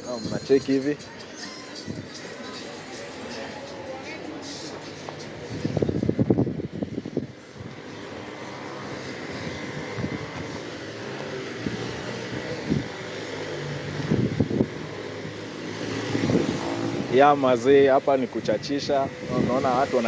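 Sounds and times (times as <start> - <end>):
faint voices: 0.0 - 20.0
vehicle engine running: 2.2 - 20.0.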